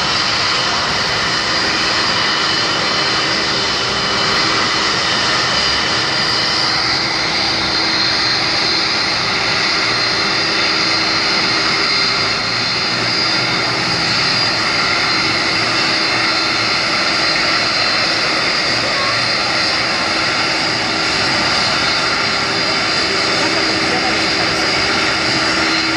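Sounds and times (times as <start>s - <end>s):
jet engines rumbling with whine: 0.0s - 25.9s.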